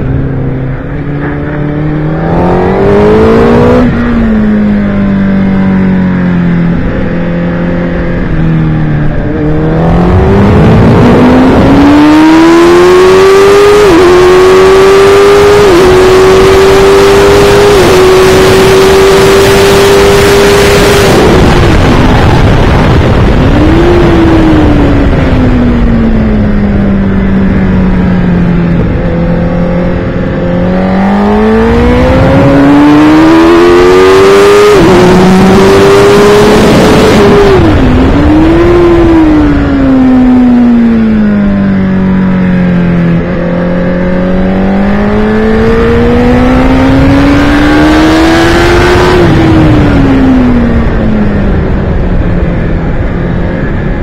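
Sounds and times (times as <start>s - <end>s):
motorcycle engine revving: 0.0s - 54.0s
wind rush over microphone: 6.6s - 54.0s.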